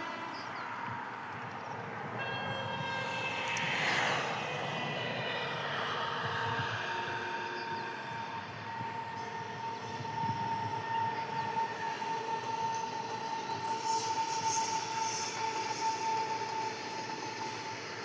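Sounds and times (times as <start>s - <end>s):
high-pitched wheel squeal: 0.0s - 18.0s
train rumbling on rails: 0.0s - 18.0s.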